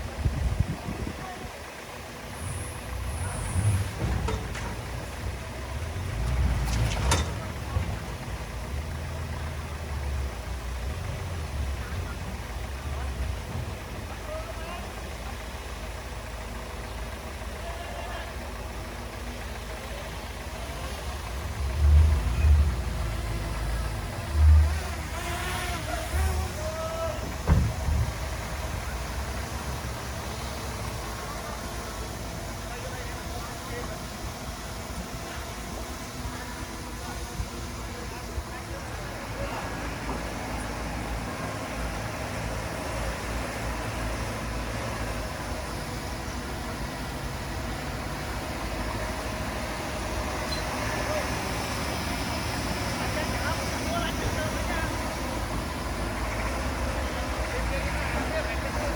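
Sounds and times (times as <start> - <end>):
diesel engine of earthmoving machinery: 0.0 - 58.9.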